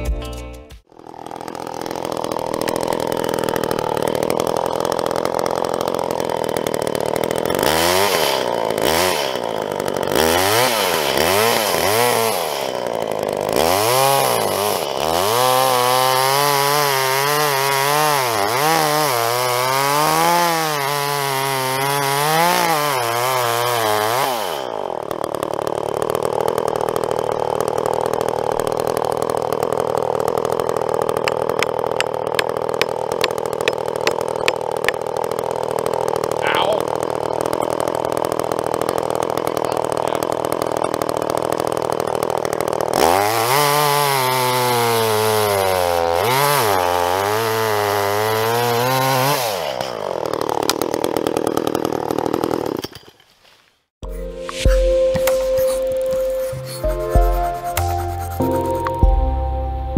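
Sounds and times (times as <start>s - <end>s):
chainsaw cutting wood: 0.8s - 59.4s.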